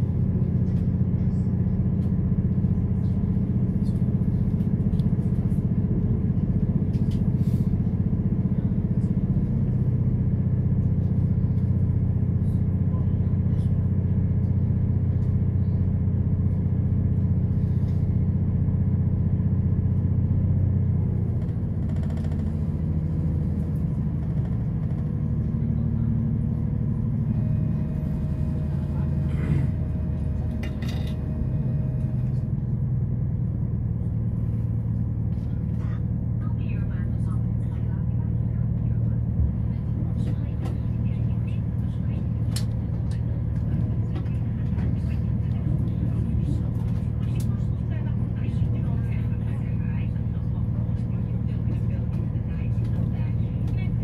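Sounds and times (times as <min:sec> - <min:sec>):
train engine drone: 0:00.0 - 0:54.0
wheels rumbling on rails: 0:00.0 - 0:54.0.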